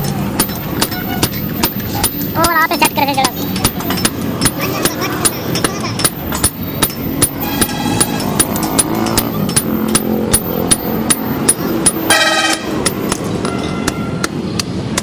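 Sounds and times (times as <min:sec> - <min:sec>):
hammer striking metal anvil: 0:00.0 - 0:15.0.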